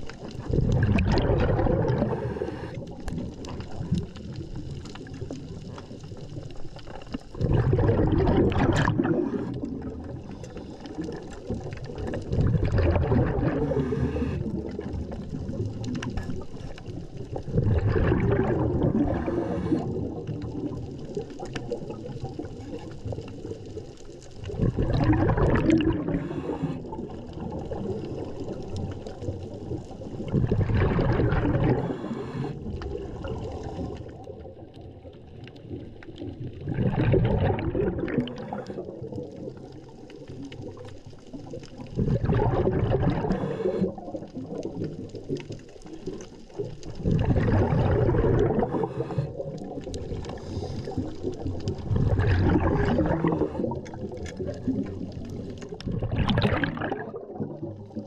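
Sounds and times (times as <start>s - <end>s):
diver exhaling bubbles underwater: 0.0s - 58.0s.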